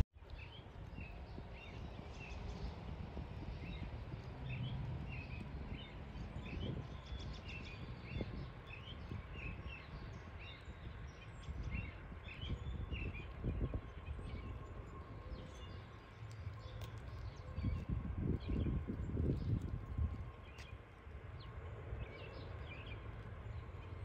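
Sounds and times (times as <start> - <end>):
small birds chirping: 0.2 - 24.0
low rumble: 0.3 - 24.0.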